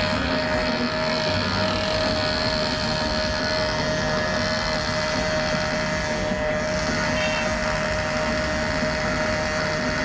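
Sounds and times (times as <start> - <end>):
petrol cutter engine running: 0.0 - 10.0.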